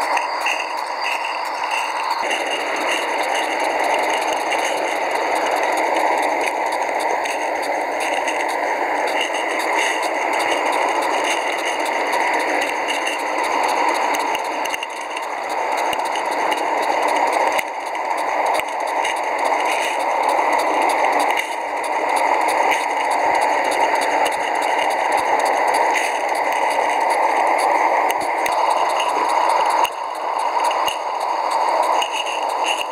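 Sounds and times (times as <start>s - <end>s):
steam hissing: 0.0s - 32.9s.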